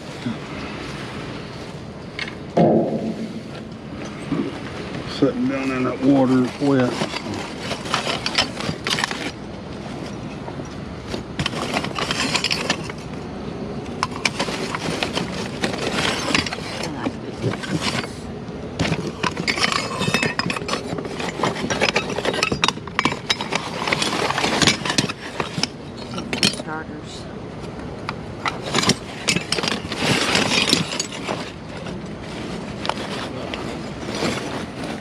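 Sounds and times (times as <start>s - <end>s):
packaging rustling and scraping: 0.0s - 10.4s, 11.0s - 13.2s, 13.8s - 26.8s, 28.4s - 35.0s
hard objects clinking: 2.2s - 13.2s, 13.8s - 26.9s, 28.0s - 35.0s.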